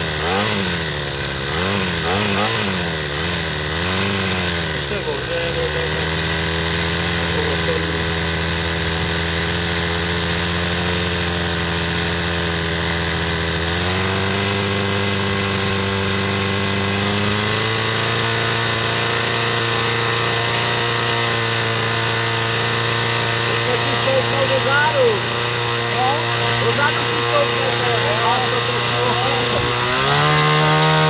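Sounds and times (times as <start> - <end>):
two-stroke engine running: 0.0 - 31.0.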